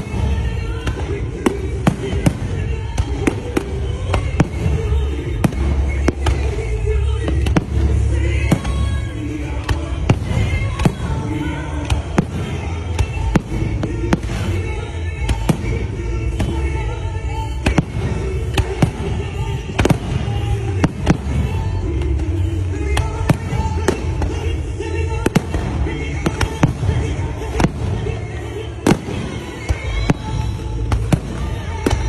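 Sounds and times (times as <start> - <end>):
continuous low rumble: 0.0 - 32.0
fireworks bangs: 0.0 - 32.0.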